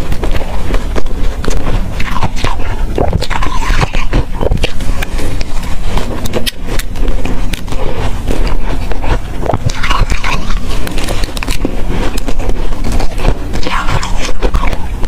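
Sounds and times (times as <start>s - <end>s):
crunching and chewing frost: 0.0s - 15.0s.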